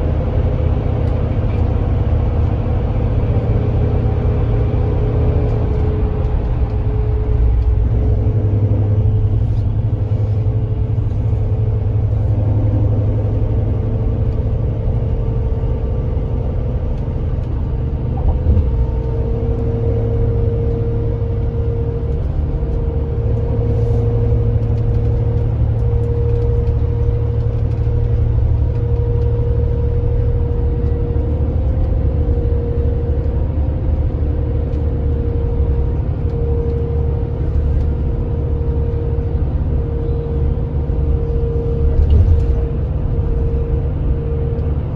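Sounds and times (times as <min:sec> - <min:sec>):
coach diesel engine rumbling: 0:00.0 - 0:44.9.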